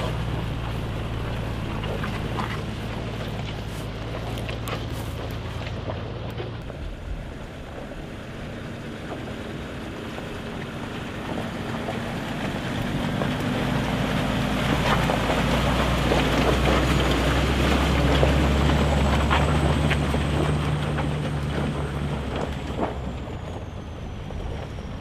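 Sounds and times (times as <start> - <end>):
engine running under load: 0.0 - 25.0.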